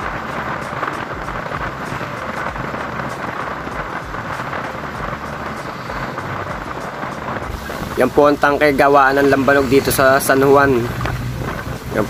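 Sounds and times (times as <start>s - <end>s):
vehicle road and wind noise: 0.0s - 12.0s.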